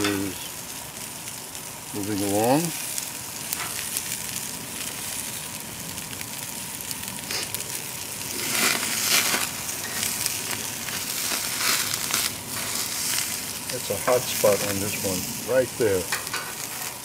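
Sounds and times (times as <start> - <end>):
vegetables sizzling on a grill: 0.0 - 17.0.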